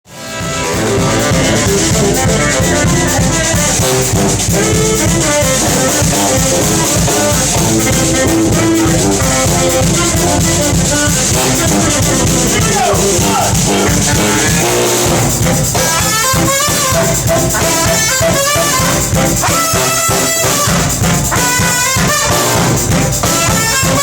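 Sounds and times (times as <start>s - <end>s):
brass band playing: 0.0s - 24.0s
steady drum beat: 0.1s - 24.0s.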